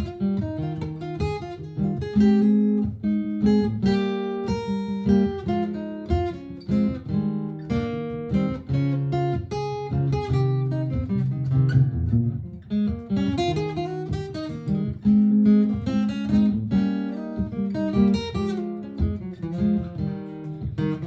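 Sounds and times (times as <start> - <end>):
acoustic guitar picked notes: 0.0 - 21.0
acoustic guitar strummed chords: 0.0 - 21.0.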